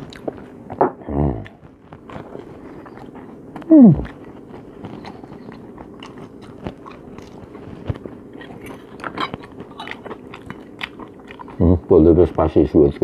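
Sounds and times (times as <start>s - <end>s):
person chewing: 0.0s - 11.8s.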